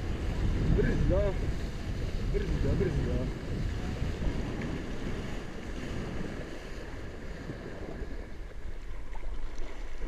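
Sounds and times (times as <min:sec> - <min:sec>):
sea water washing: 0:00.0 - 0:10.0
wind buffeting microphone: 0:00.0 - 0:10.0.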